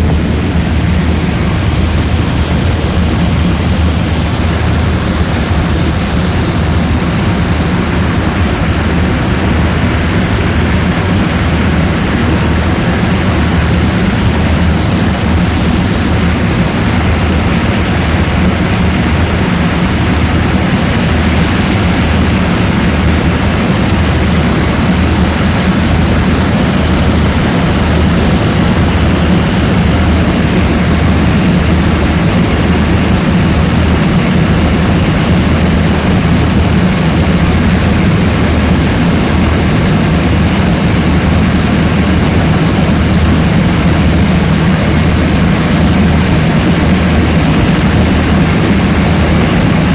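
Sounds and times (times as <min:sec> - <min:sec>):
heavy airflow noise: 0:00.0 - 0:49.9
propeller airplane engine droning: 0:00.0 - 0:49.9.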